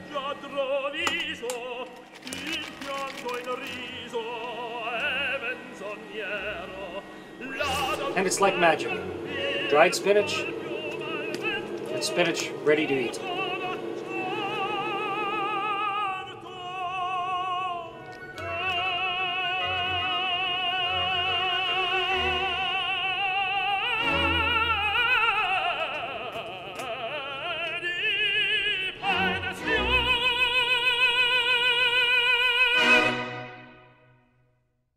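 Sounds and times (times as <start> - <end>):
operatic singing: 0.0 - 34.1
musical accompaniment: 0.0 - 34.3.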